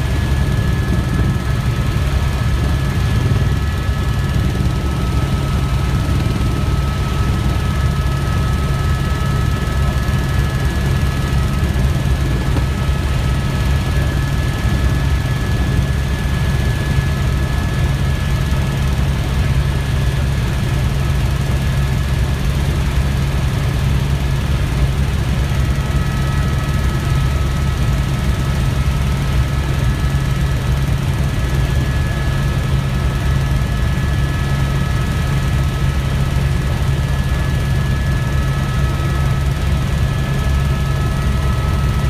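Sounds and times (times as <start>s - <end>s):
helicopter engine and rotors: 0.0s - 42.0s.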